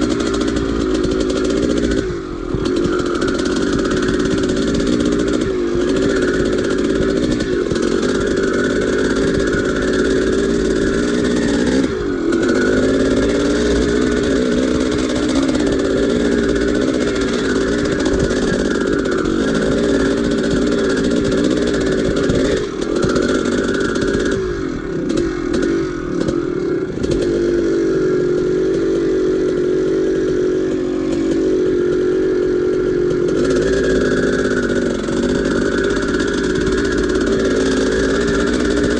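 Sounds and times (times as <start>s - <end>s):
dirt bike engine running hard: 0.0s - 38.9s.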